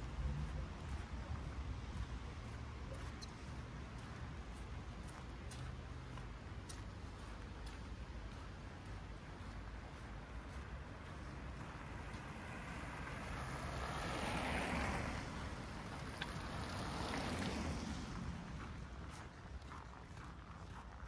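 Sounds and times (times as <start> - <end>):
passing vehicle: 0.0 - 20.9.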